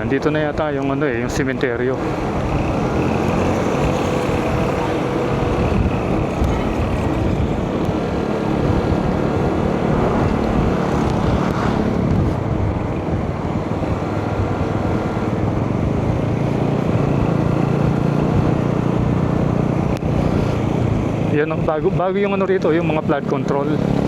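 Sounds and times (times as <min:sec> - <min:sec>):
motorcycle engine cruising: 0:00.0 - 0:24.0
wind rush on microphone: 0:00.0 - 0:24.0.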